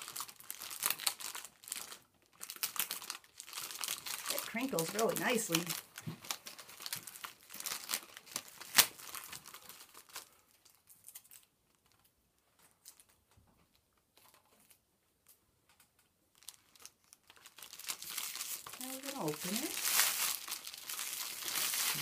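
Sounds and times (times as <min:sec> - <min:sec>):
foil wrapping crinkling: 0:00.0 - 0:14.8, 0:16.3 - 0:22.0.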